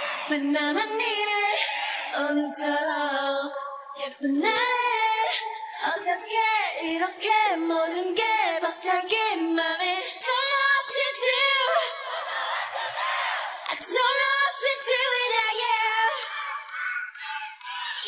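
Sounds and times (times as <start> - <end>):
women singing: 0.0 - 18.0.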